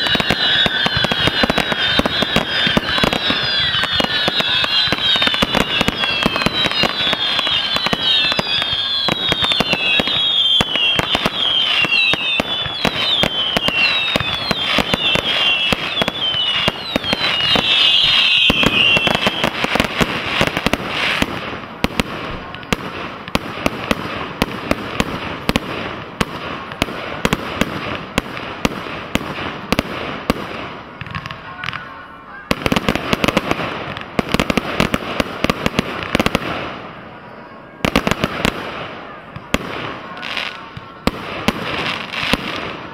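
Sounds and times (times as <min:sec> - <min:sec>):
firework bangs and crackling: 0:00.0 - 0:42.9
firework whistles: 0:00.0 - 0:42.9.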